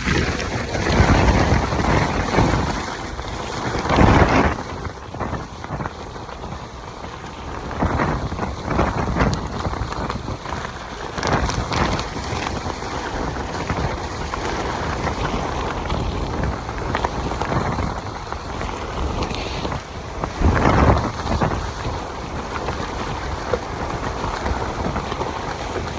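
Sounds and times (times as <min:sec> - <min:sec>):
heavy rain pouring: 0:00.0 - 0:25.9
wind buffeting microphone: 0:00.0 - 0:25.9.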